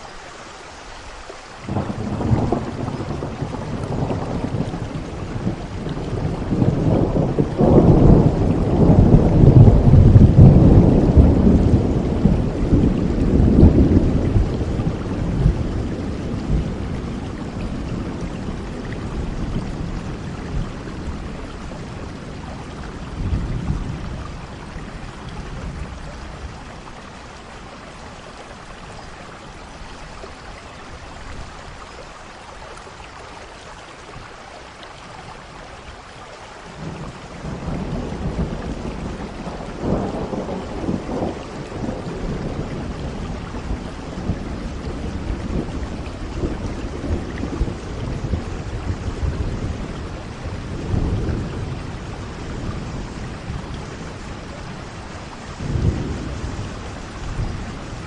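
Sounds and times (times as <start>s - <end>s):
steady rain: 0.0s - 58.0s
soft rolling thunder: 1.6s - 33.4s, 34.0s - 58.0s.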